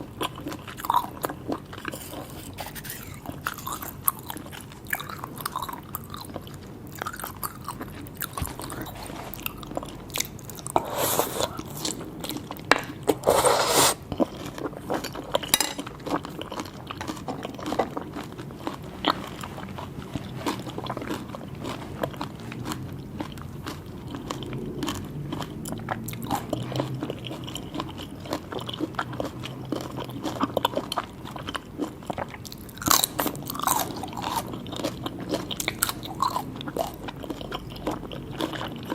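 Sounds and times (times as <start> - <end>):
chewing and wet mouth sounds: 0.0 - 38.9.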